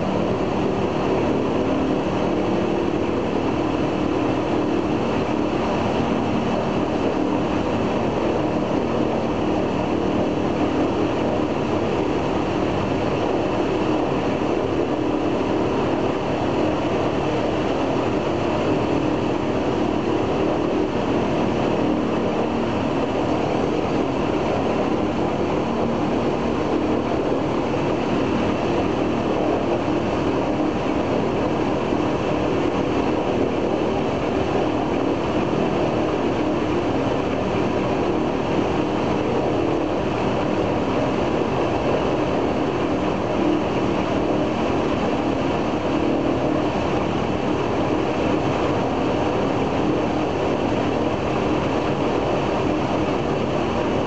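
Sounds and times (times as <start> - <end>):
radial aircraft engine running: 0.0 - 54.0.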